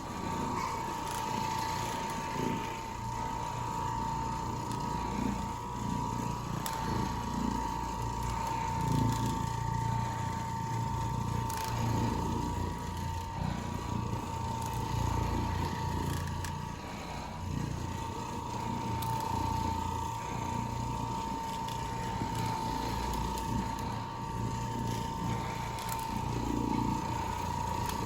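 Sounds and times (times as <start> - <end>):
carpet cleaning machine running: 0.0 - 28.0.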